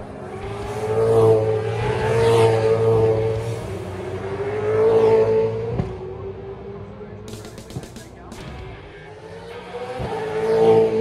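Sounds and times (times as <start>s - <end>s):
race cars passing at speed: 0.0s - 11.0s.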